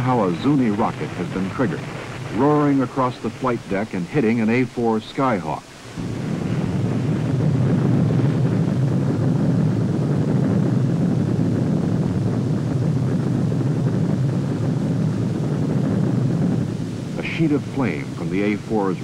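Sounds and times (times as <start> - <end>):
large fire rumbling: 0.0 - 19.0.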